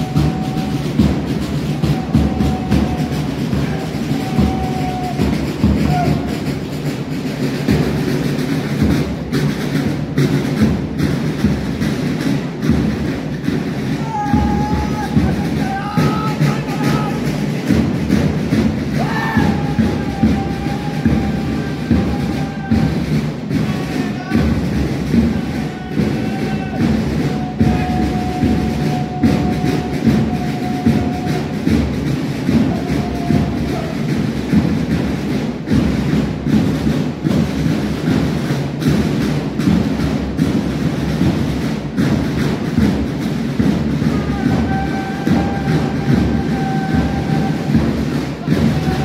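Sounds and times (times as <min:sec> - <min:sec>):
march music: 0:00.0 - 0:49.0
steady drum beat: 0:00.0 - 0:49.0.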